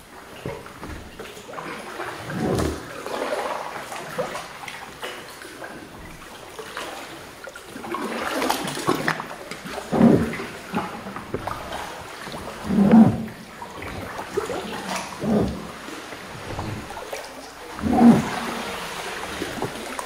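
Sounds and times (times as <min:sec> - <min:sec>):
water splashing around canoe: 0:00.0 - 0:20.0.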